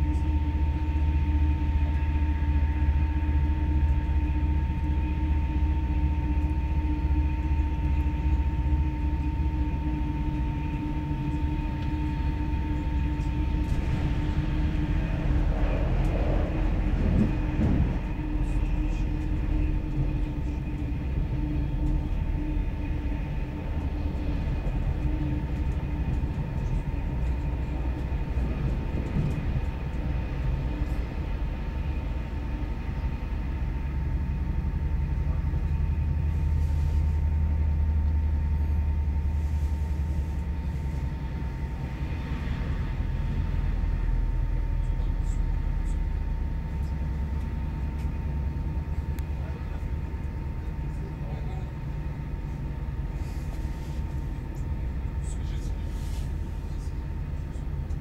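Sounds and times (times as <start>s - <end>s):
train motor whine: 0.0s - 58.0s
train wheels rumbling on rail: 0.0s - 58.0s.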